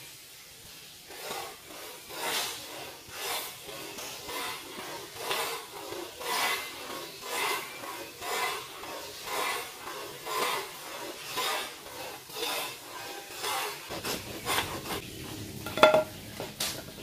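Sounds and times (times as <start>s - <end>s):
hand saw rasping on wood: 1.1s - 15.0s.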